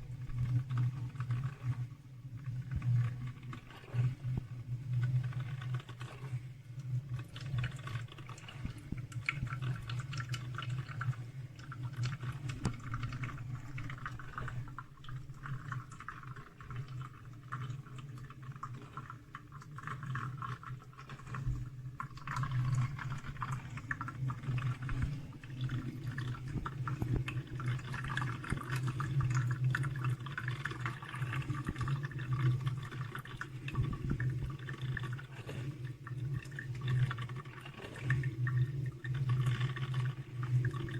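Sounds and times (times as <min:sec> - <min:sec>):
coffee maker water bubbling: 0:00.0 - 0:40.9
low machine hum: 0:00.0 - 0:40.9.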